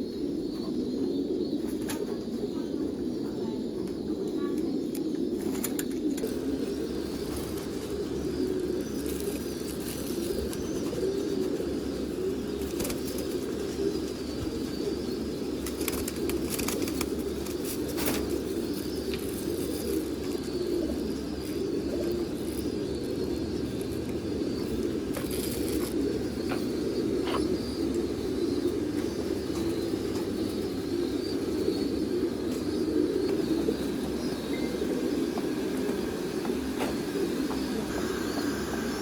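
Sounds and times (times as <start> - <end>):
pigeons cooing: 0.0 - 39.0.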